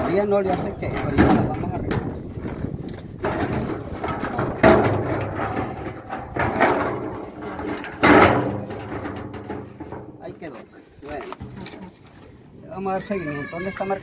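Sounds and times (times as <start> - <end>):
metal drum clanking and scraping: 0.0 - 12.0.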